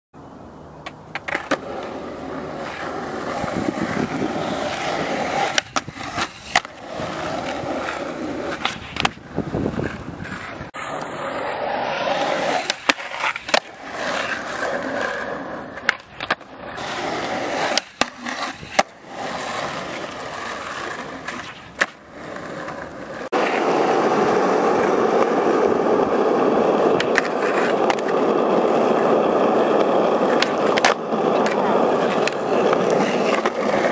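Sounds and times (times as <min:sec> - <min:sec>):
skateboard wheels rolling on asphalt: 0:00.2 - 0:33.9
skateboard clacking on ground: 0:00.7 - 0:33.9.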